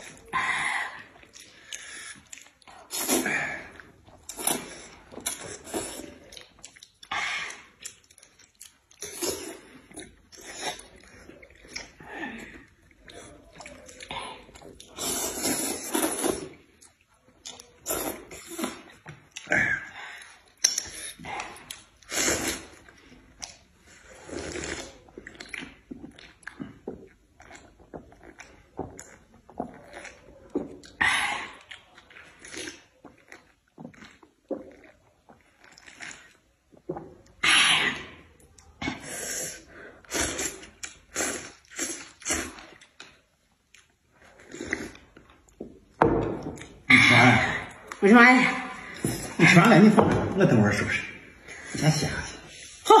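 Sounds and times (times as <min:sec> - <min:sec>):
chewing: 0:00.0 - 0:37.4, 0:38.1 - 0:46.9
noodles being slurped: 0:00.0 - 0:45.6.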